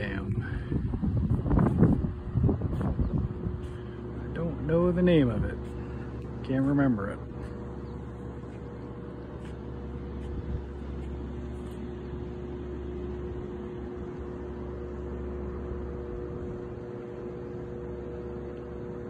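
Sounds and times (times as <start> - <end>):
dam rumble and hum: 0.0 - 19.0.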